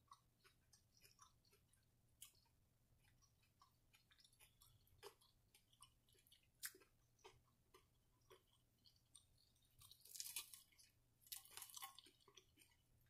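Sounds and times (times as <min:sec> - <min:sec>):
chewing crispy food: 0:00.0 - 0:13.0.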